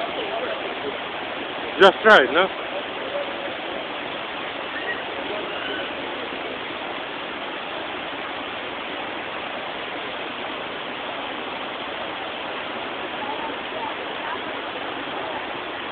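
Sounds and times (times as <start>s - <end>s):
water rushing over cascades: 0.0s - 15.9s.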